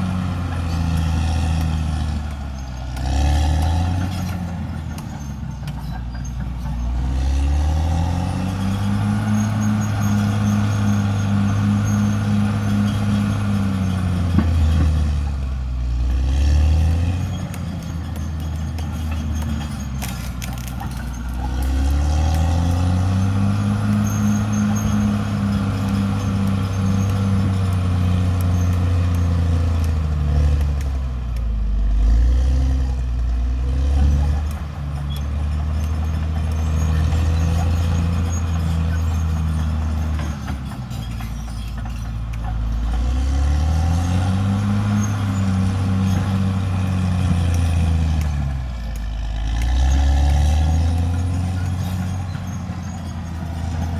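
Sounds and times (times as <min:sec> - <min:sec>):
bulldozer diesel engine revving: 0:00.0 - 0:53.9.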